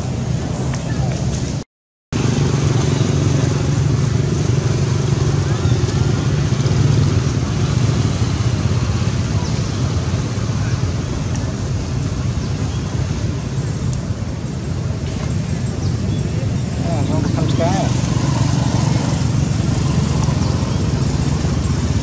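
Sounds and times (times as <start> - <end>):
low rumbling noise: 2.2 - 22.0.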